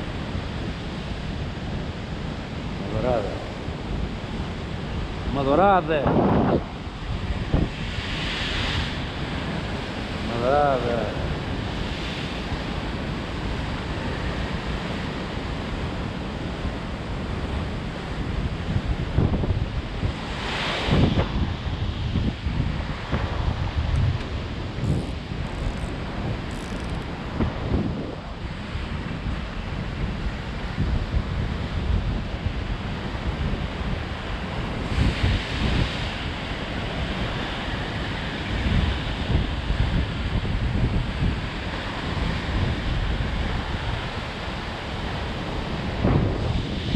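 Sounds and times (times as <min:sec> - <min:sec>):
surf washing over rocks: 0:00.0 - 0:46.9
wind buffeting microphone: 0:00.0 - 0:46.9.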